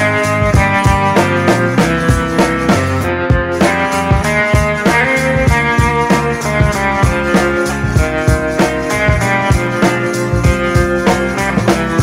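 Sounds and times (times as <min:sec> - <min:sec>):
guitar instrumental with drum beat: 0:00.0 - 0:12.0.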